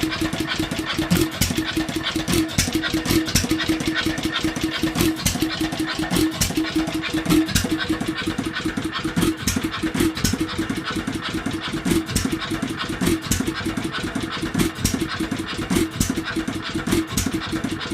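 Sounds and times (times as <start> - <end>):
stationary engine running: 0.0 - 17.9.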